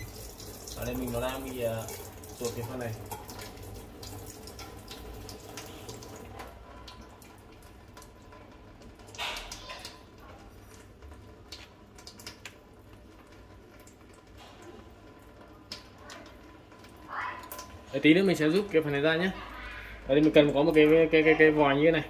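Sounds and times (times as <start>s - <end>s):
water running from hose: 0.0s - 22.0s.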